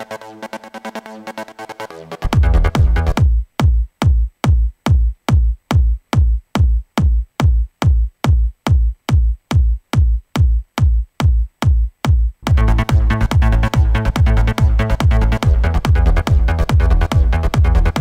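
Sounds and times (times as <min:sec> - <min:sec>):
electronic kick drum: 0:02.1 - 0:18.0.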